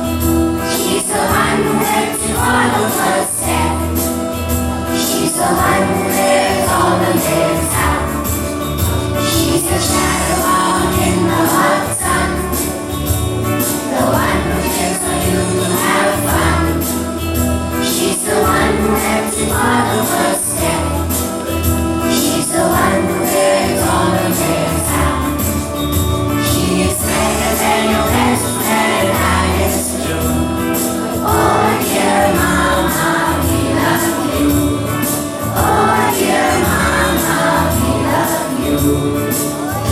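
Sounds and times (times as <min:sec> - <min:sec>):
group of voices singing: 0:00.0 - 0:39.9
instrumental backing with low beat: 0:00.0 - 0:39.9.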